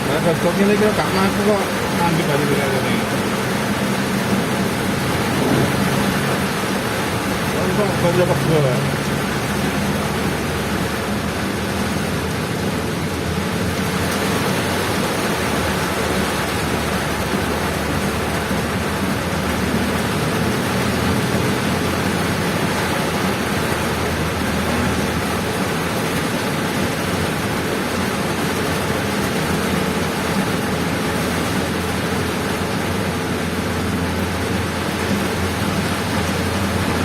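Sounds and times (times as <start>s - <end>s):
heavy rain: 0.0s - 37.0s
low engine hum: 0.0s - 37.0s
tyre spray on wet road: 0.0s - 37.0s
wind: 0.0s - 37.0s.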